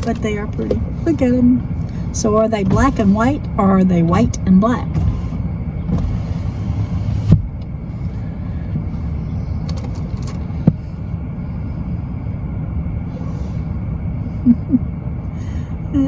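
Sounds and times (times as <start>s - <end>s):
car rolling inside cabin: 0.0s - 16.0s.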